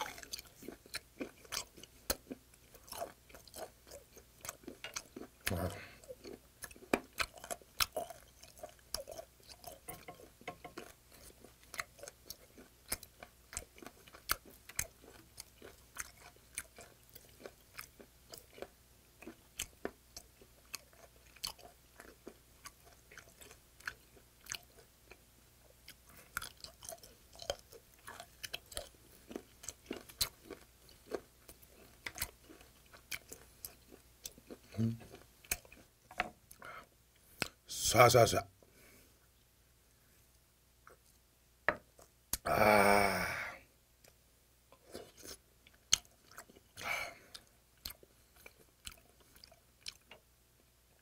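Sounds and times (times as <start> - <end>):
wet chewing with clicks: 0.0 - 37.6, 40.8 - 41.2, 41.8 - 42.5, 44.0 - 50.3.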